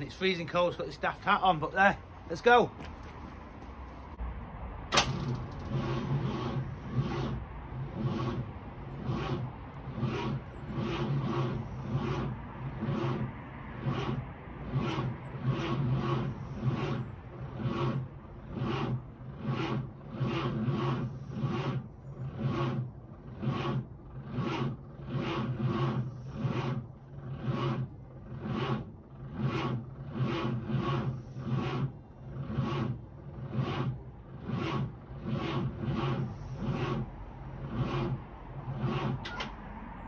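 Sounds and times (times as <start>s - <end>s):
starter motor cranking engine: 4.9s - 40.0s.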